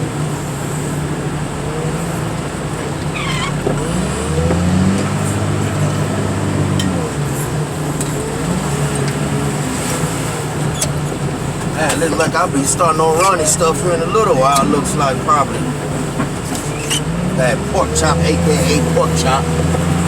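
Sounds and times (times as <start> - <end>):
diesel engine revving and idling: 0.0 - 20.0.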